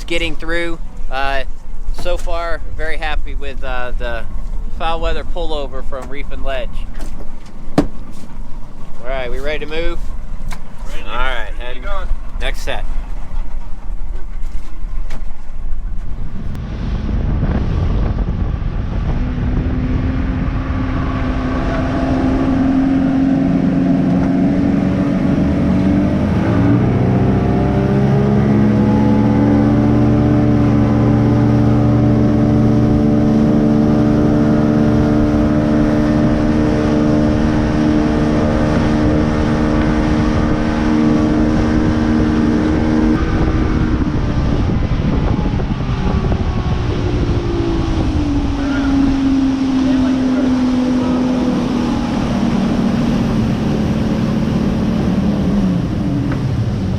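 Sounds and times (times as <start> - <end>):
motorboat engine throttling up: 0.0 - 16.6, 18.0 - 56.9
rush of wind and water: 0.0 - 56.9.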